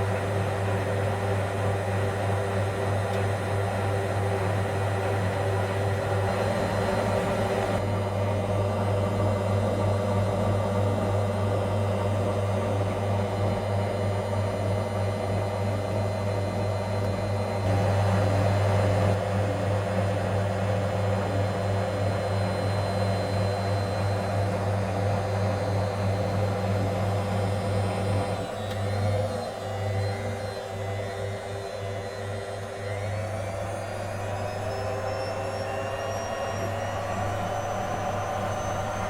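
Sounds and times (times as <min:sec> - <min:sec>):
washing machine spinning: 0:00.0 - 0:39.0.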